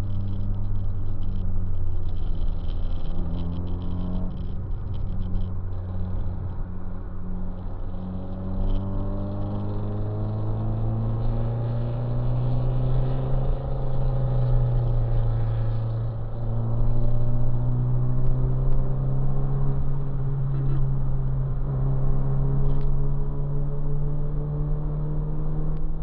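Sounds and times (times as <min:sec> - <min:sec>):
car engine cruising: 0:00.0 - 0:26.0
road noise: 0:00.0 - 0:26.0.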